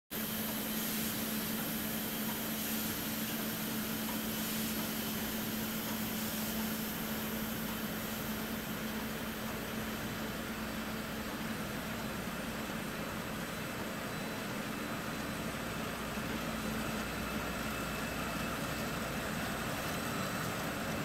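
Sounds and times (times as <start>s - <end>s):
steady machine hum: 0.1s - 21.0s.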